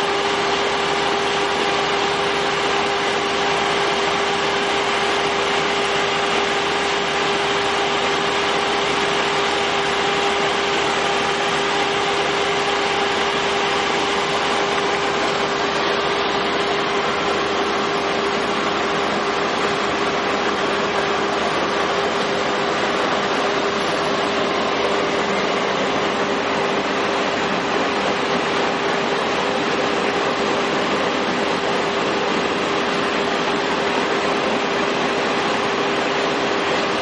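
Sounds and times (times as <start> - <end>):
drilling rig engine drone: 0.0 - 37.0
hydraulic whine: 0.0 - 37.0.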